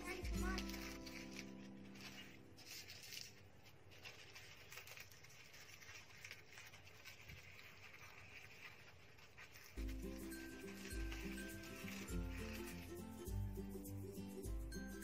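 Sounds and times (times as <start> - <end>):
light scratching on fruit skin: 0.0 - 14.0.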